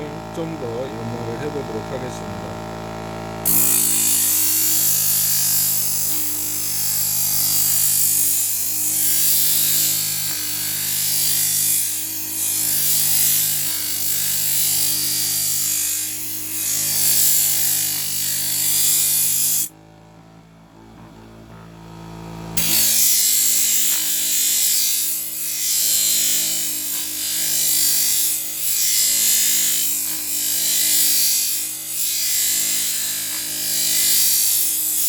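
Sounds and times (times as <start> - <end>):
motor hum: 0.0 - 35.0
knife grinding on wheel: 3.0 - 19.7, 22.6 - 35.0.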